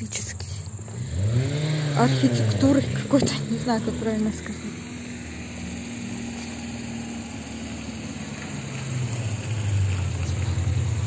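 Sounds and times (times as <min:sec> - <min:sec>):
engine running low hum: 0:00.0 - 0:11.0.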